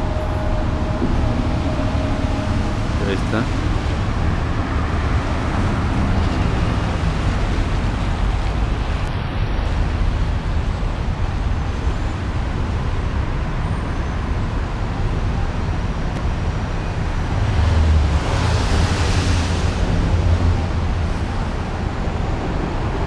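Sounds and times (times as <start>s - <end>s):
low traffic rumble: 0.0s - 23.0s.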